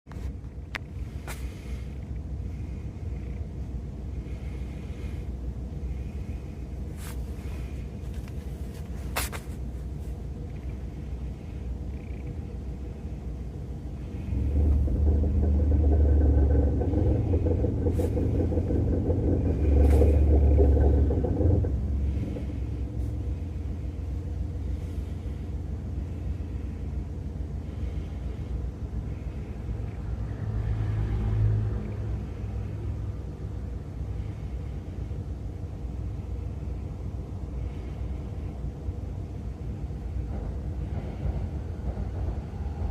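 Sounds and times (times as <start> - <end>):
car engine rumbling: 0.0 - 42.9.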